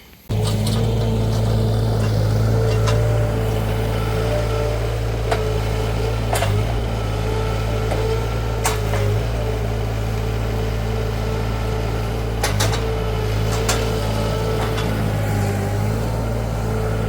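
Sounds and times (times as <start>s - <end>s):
skid steer engine running: 0.3s - 17.0s.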